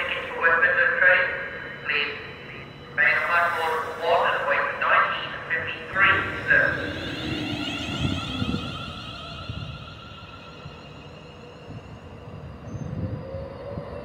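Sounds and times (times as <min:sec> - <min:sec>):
electric train whine: 0:00.0 - 0:14.0
train wheels rumbling on rail: 0:02.5 - 0:14.0.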